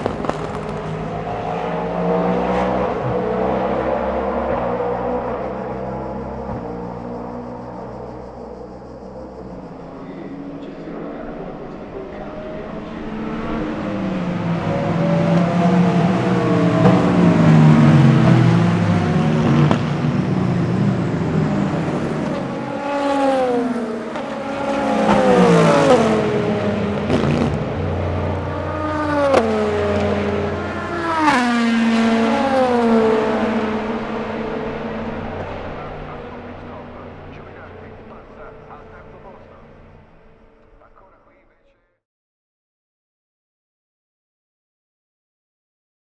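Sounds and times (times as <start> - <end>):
race cars passing by: 0.0 - 41.6.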